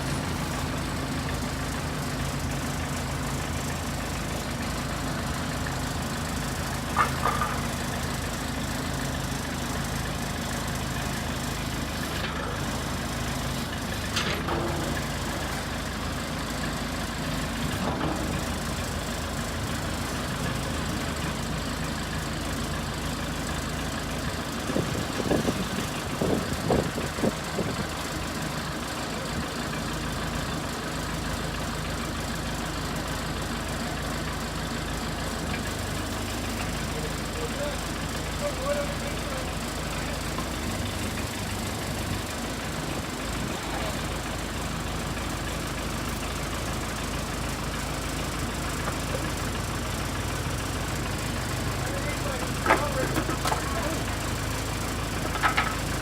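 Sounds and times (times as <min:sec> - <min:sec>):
backhoe engine idling: 0:00.0 - 0:56.0.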